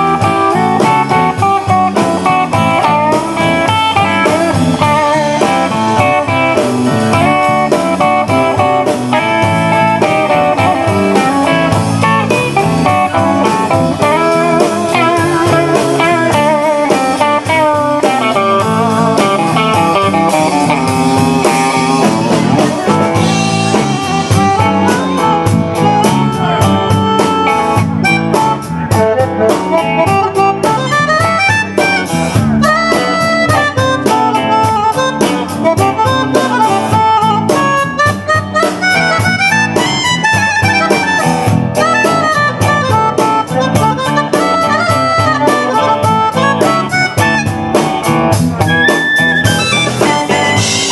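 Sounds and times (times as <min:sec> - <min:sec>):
electric guitar: 0:00.0 - 0:50.9
live blues-rock band: 0:00.0 - 0:50.9.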